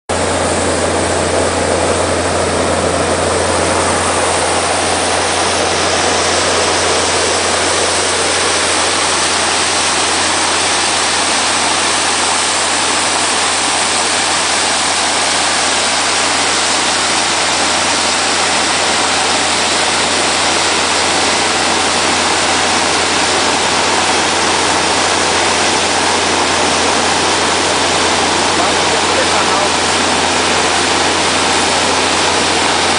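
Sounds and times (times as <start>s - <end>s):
engine and pump humming: 0.1s - 32.9s
water rushing from pipe: 0.1s - 32.9s.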